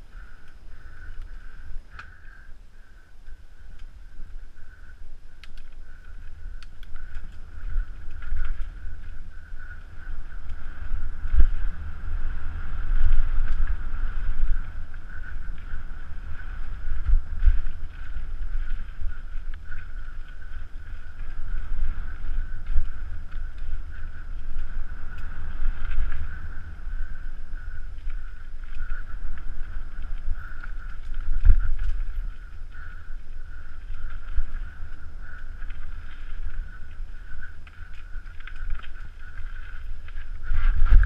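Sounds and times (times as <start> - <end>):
steady high hum: 0.0 - 41.0
wind buffeting camera: 0.0 - 41.0.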